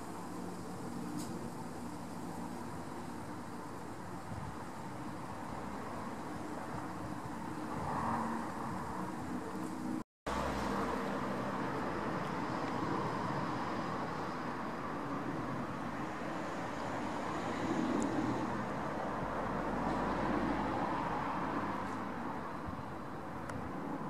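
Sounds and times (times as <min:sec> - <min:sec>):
distant jet engine roar: 0:00.0 - 0:24.0.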